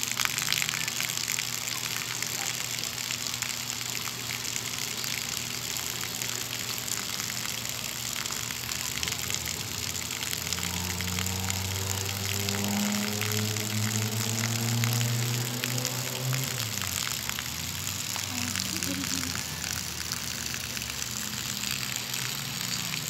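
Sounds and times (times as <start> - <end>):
water splashing: 0.0 - 23.0.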